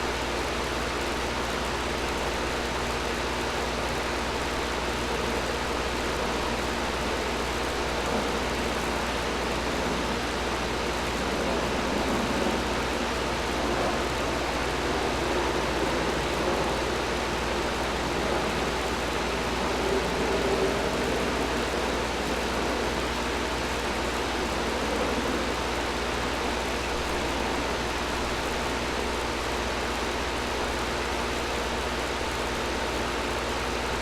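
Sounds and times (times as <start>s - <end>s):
air conditioner running: 0.0s - 34.0s.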